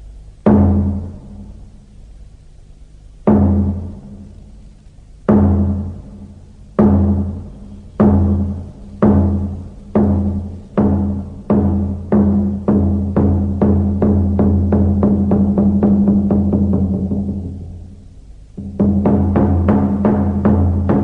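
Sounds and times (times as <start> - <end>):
deep pitched drum strikes: 0.0 - 2.0, 3.2 - 4.6, 5.2 - 18.0, 18.6 - 21.0.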